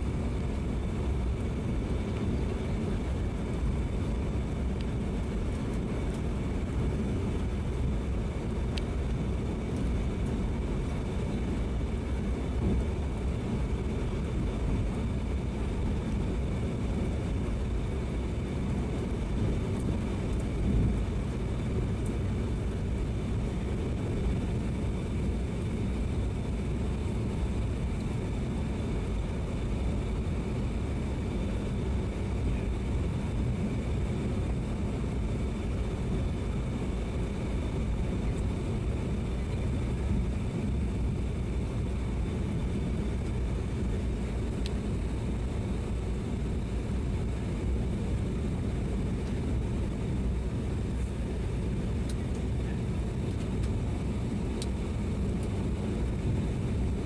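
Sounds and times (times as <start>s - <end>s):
airplane cabin airflow and engine rush: 0.0s - 57.0s.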